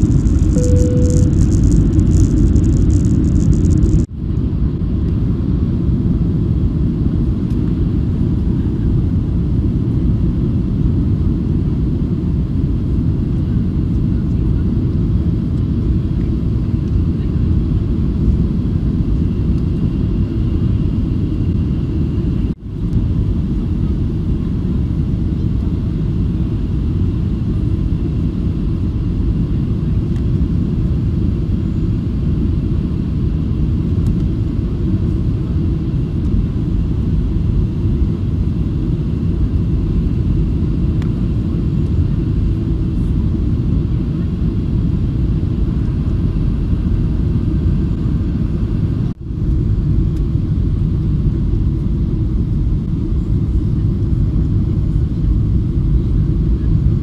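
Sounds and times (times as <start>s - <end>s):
airliner engine and airflow rumble: 0.0s - 57.0s.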